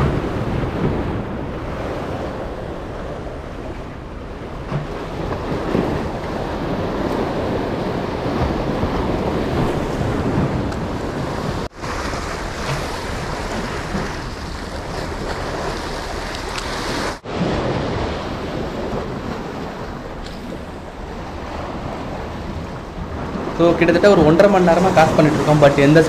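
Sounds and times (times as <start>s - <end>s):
waves breaking against rocks: 0.0s - 26.0s.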